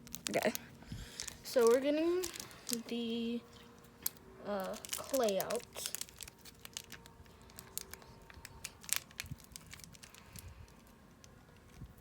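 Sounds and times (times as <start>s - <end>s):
packaging crinkling and crackling: 0.0s - 12.0s.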